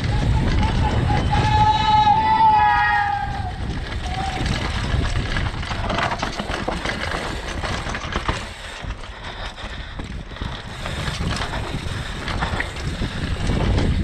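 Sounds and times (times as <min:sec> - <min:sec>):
bike rattling and knocking: 0:00.0 - 0:14.0
bike tyres crunching over stones: 0:00.0 - 0:14.0.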